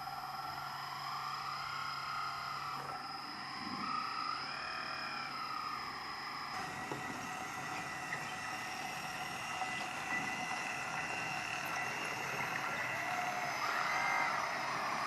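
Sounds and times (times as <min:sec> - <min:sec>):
electric motor and pump whine: 0:00.0 - 0:15.0.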